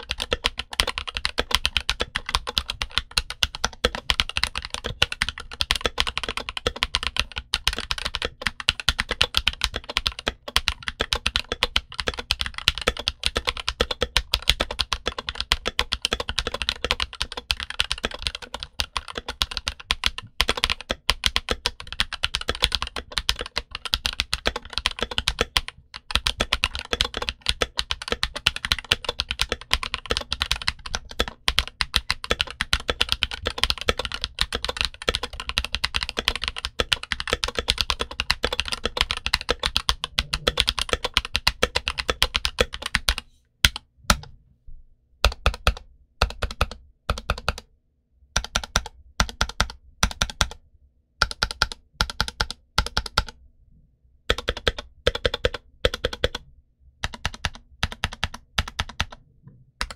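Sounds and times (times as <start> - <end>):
fast typing on keyboard: 0.0 - 44.2, 45.2 - 47.6, 48.4 - 50.6, 51.2 - 53.4, 54.3 - 56.4, 57.0 - 59.2.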